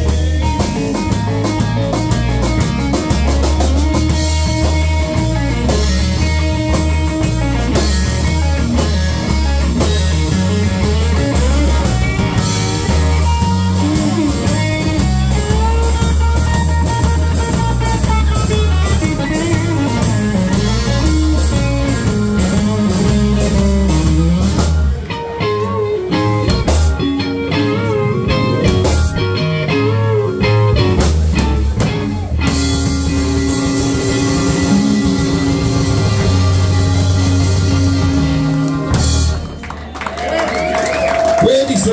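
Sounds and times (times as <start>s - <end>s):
electric guitar lead lines: 0.0s - 39.8s
drum kit: 0.0s - 41.9s.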